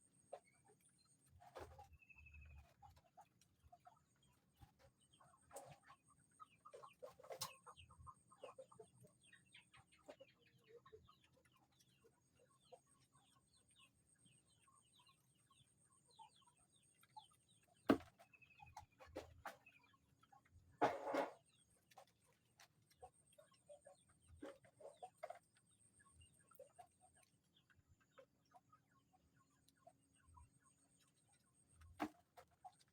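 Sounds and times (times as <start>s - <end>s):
faint bird calls and chirps: 0.0s - 32.9s.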